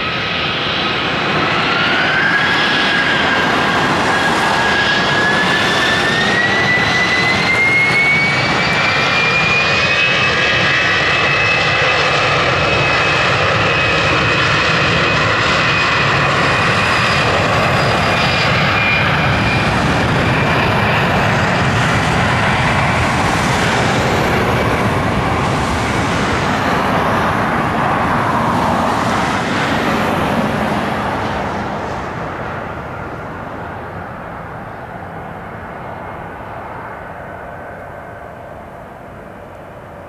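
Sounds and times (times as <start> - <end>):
jet engines at takeoff thrust: 0.0 - 40.0.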